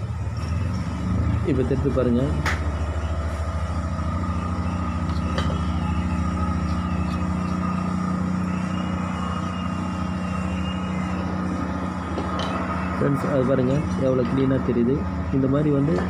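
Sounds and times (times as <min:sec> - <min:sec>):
motor droning with fast pulse: 0:00.0 - 0:16.0.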